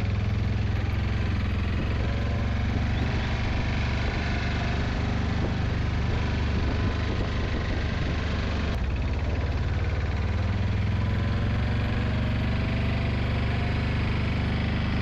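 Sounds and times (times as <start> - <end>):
engine droning steadily: 0.0 - 15.0.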